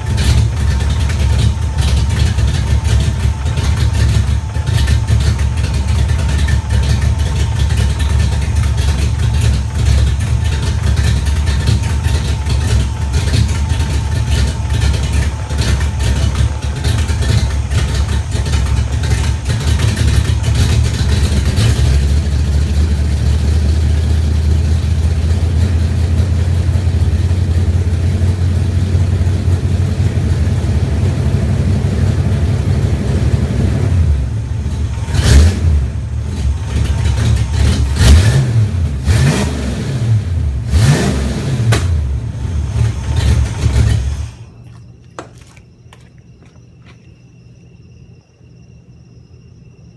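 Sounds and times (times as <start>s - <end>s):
car engine idling and revving: 0.0s - 44.6s.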